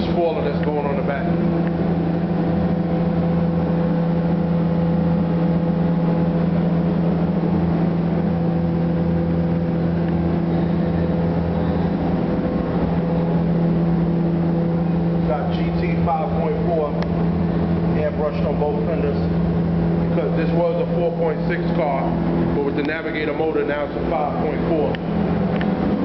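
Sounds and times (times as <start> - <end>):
exhaust fan humming: 0.0 - 26.0.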